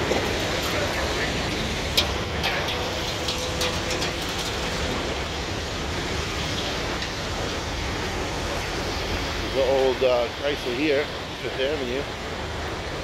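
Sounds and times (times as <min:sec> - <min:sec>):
scrapyard rumble: 0:00.0 - 0:13.0.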